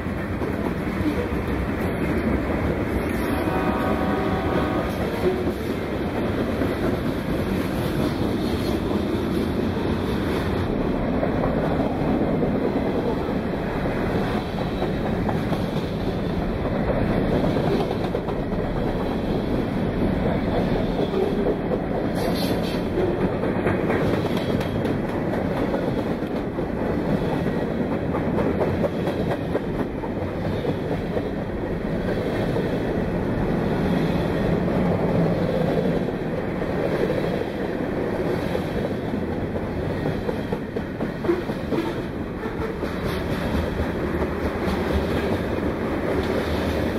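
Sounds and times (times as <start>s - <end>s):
clickety-clack over rail joints: 0.0s - 46.9s
train wheels rumbling on rails: 0.0s - 46.9s.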